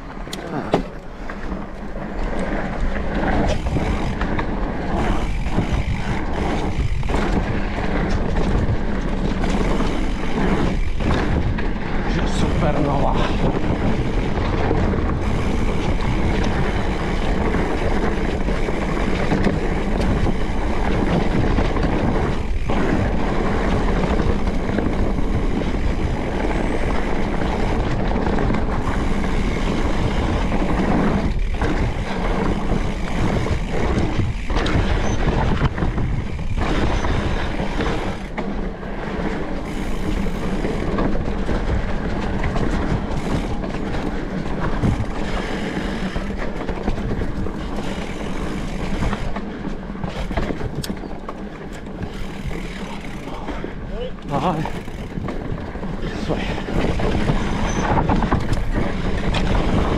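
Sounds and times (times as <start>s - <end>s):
bike rattling: 0.0s - 59.9s
bike rolling on dirt trail: 0.0s - 59.9s.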